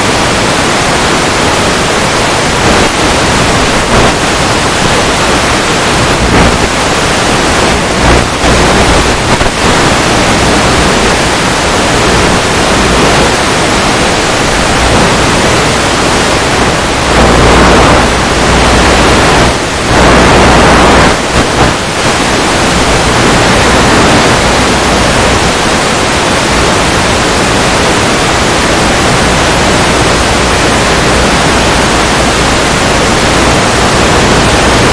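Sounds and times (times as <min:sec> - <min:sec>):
radio static hiss: 0:00.0 - 0:34.9.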